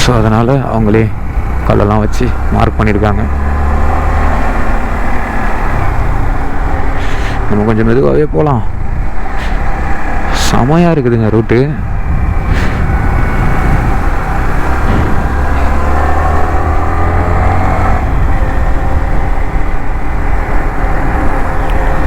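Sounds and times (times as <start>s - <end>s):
motorcycle engine running: 0.0s - 10.8s, 11.6s - 22.0s.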